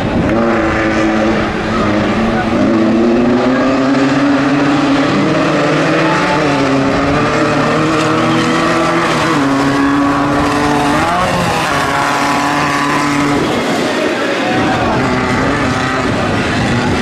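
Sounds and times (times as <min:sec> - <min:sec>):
engines running hard: 0:00.0 - 0:17.0.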